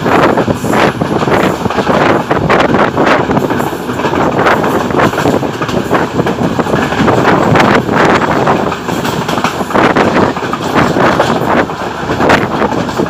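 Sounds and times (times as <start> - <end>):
train wheels rattling on track: 0.0 - 13.0
wind buffeting microphone: 0.0 - 13.0.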